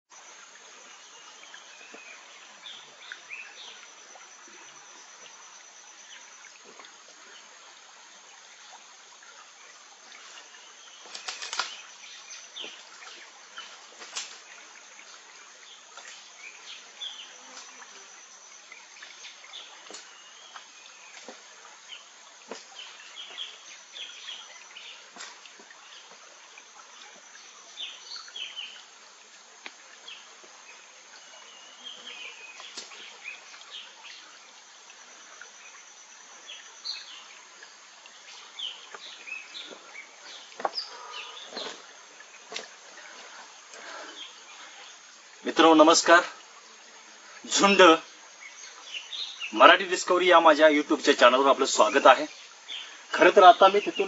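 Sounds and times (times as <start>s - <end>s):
even hiss: 0.1s - 54.0s
high insect drone: 0.1s - 54.0s.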